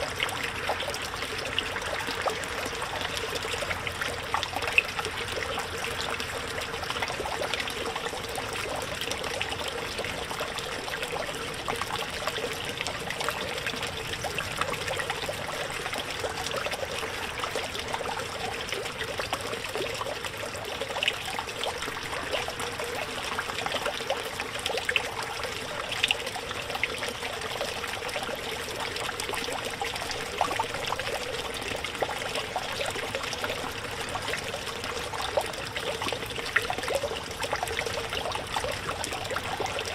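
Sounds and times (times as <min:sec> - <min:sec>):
fountain splashing water: 0:00.0 - 0:39.9.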